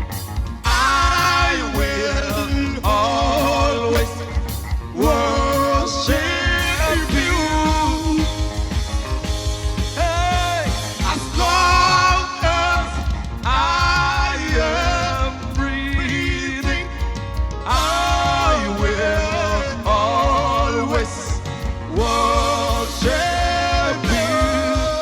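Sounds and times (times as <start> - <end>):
band with bass and beat: 0.0 - 25.0
person singing gospel: 0.0 - 25.0.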